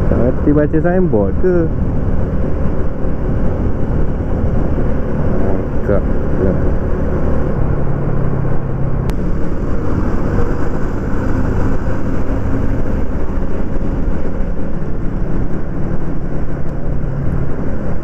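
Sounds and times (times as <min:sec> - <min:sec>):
motorcycle engine hum: 0:00.0 - 0:18.0
road noise: 0:00.0 - 0:18.0.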